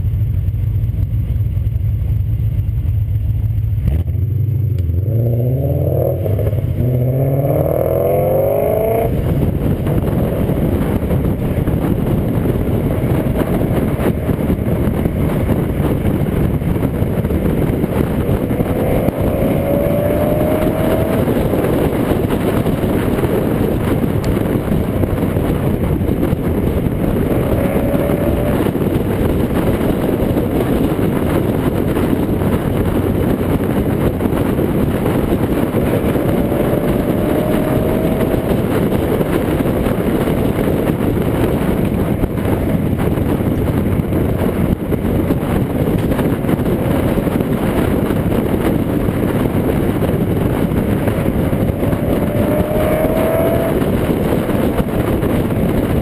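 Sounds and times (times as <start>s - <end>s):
car engine accelerating: 0.0s - 56.0s
wind rush and road noise: 0.0s - 56.0s.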